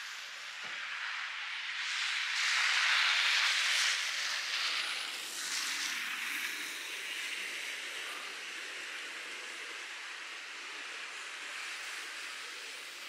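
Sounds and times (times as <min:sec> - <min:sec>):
outdoor hissing noise: 0:00.0 - 0:13.0.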